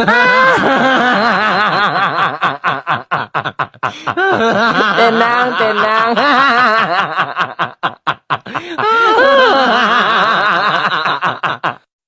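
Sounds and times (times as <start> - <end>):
person laughing: 0.0 - 11.9.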